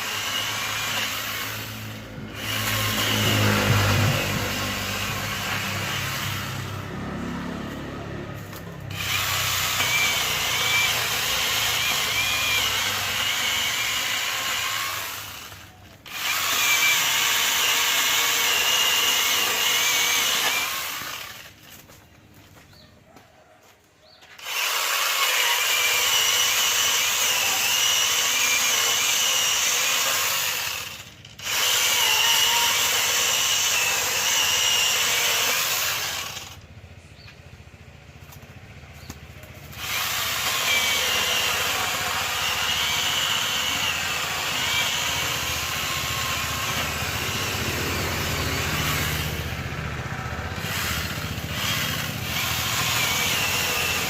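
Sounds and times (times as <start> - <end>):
angle grinder chainsaw cutting wood: 0.0 - 22.0, 24.2 - 37.3, 38.2 - 54.0.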